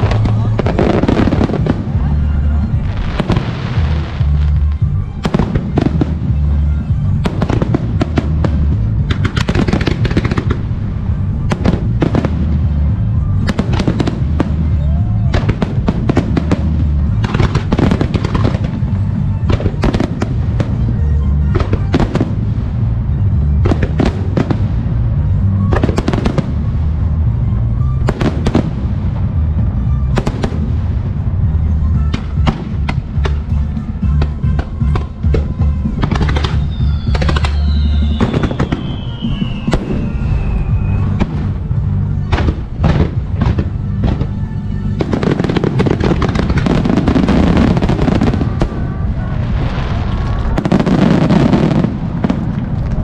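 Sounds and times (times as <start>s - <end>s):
fireworks crackle: 0.0s - 53.0s
music playing: 0.0s - 53.0s.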